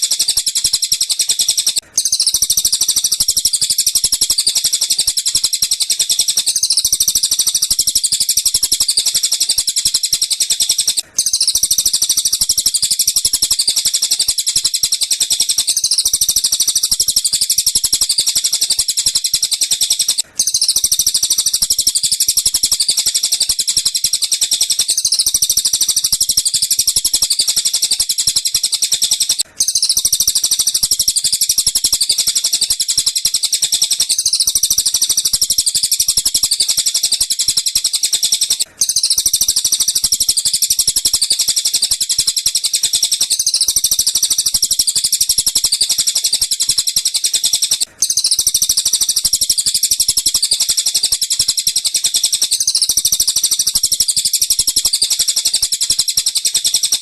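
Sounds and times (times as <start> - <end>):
rapid high-pitched bird chirping: 0.0 - 57.0.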